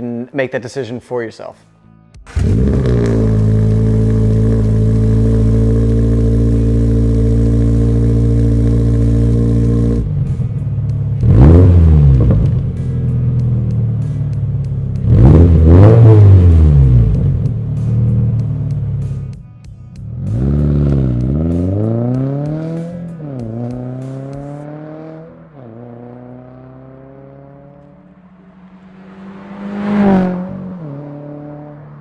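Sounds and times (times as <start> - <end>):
car engine revving: 2.3 - 19.3, 20.0 - 32.0.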